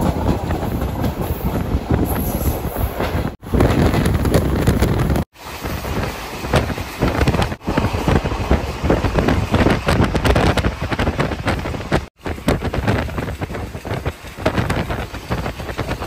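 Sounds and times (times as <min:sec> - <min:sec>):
train rumbling: 0:00.0 - 0:16.0
wind buffeting microphone: 0:00.0 - 0:16.0.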